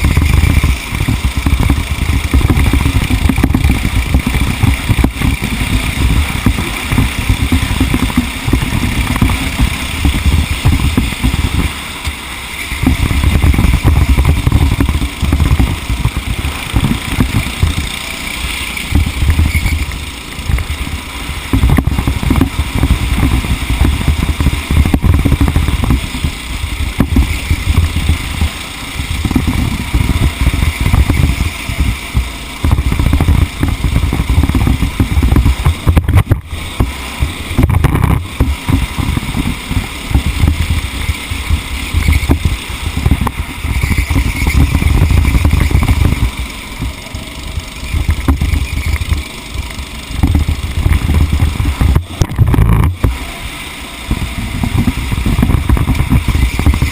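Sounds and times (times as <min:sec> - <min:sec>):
vehicle engine running: 0:00.0 - 0:56.9
wind rumble on microphone: 0:00.0 - 0:56.9.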